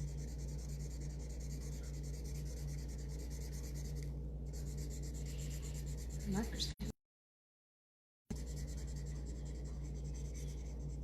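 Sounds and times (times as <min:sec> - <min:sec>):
marker scratching on paper: 0:00.0 - 0:06.8, 0:08.3 - 0:11.0.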